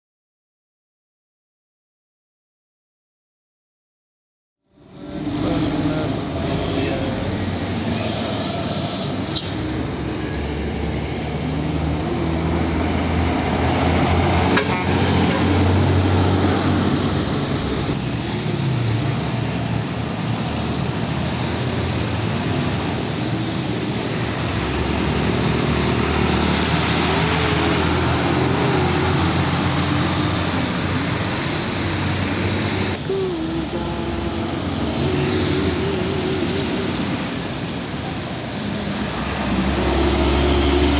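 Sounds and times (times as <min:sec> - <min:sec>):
diesel trucks driving past: 0:04.7 - 0:40.9.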